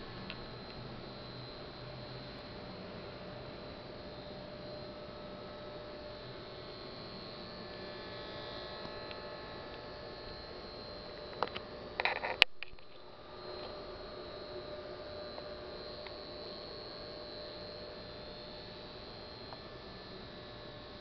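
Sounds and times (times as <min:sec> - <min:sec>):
crackles: 0:00.0 - 0:17.9
faint whining tones: 0:00.0 - 0:21.0
speaker electrical hum and hiss: 0:00.0 - 0:21.0.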